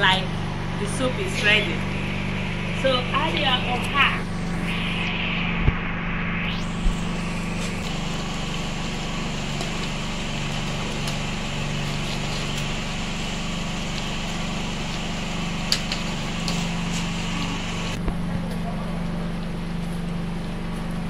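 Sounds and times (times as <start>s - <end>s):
machine hum: 0.0s - 20.9s.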